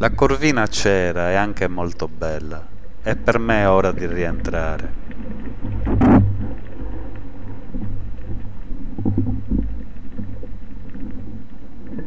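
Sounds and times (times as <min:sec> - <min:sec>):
muffled underwater rumble: 0:00.0 - 0:12.0.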